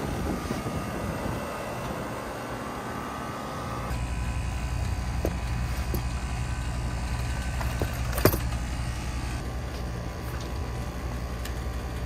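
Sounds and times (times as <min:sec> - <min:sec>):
machine humming with pulses: 0:00.0 - 0:12.0.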